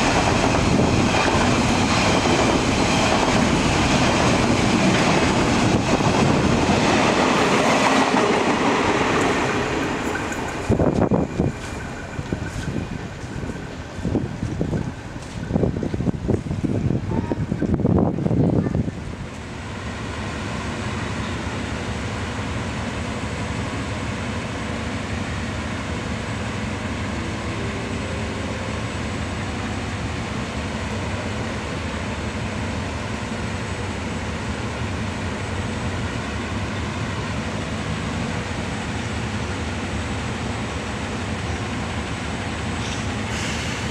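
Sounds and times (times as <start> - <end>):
diesel locomotive running: 0.0 - 43.9.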